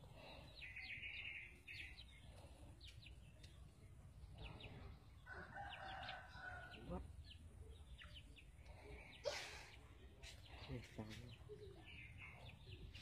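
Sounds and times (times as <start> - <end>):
faint bird chirps: 0.2 - 13.0.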